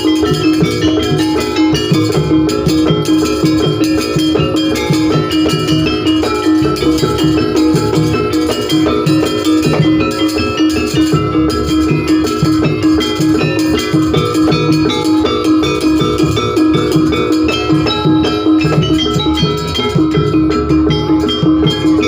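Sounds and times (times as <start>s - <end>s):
dense hand drumming: 0.0s - 22.0s
metallophones playing bright notes: 0.0s - 22.0s.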